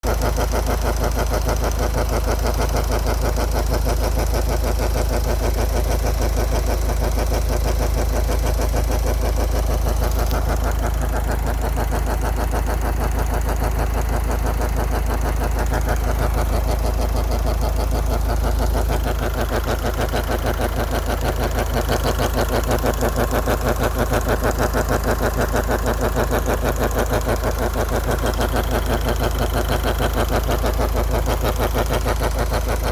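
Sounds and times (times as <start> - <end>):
car engine idling with humming drone: 0.0 - 32.9.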